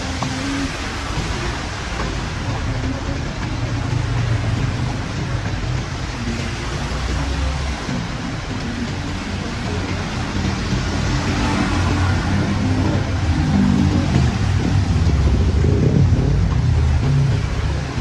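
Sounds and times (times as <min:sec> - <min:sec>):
heavy rain hissing: 0:00.0 - 0:18.0
wind rumbling on microphone: 0:00.0 - 0:18.0.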